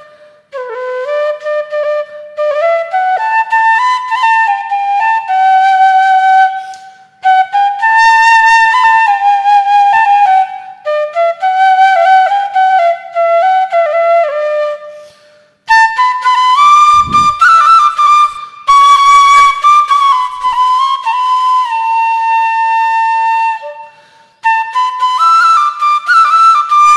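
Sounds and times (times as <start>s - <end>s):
solo flute melody: 0.0s - 26.9s.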